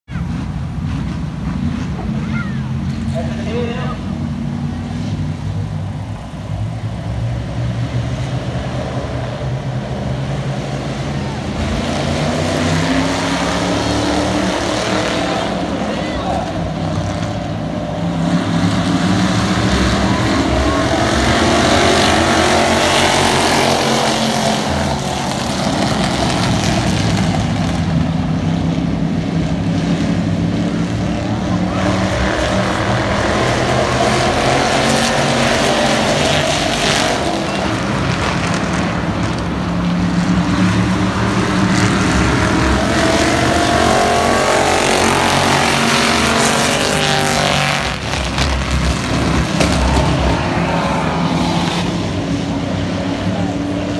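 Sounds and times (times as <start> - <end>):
race car engines droning: 0.0 - 53.9.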